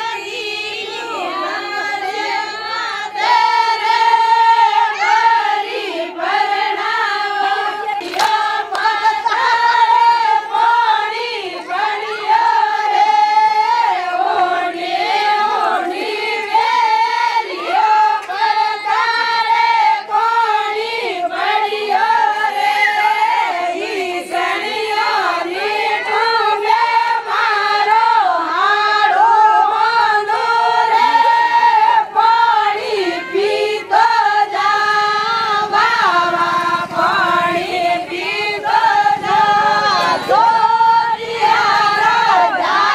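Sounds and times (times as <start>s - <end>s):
women singing folk song in chorus: 0.0s - 42.9s.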